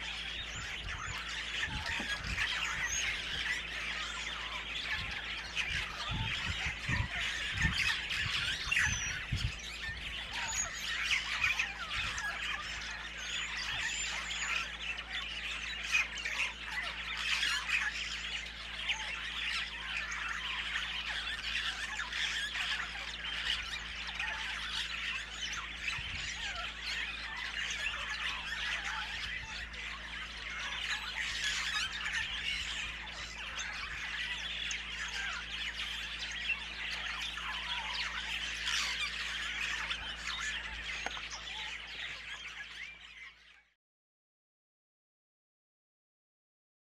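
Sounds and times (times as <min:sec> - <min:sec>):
chorus of birds calling: 0:00.0 - 0:43.8.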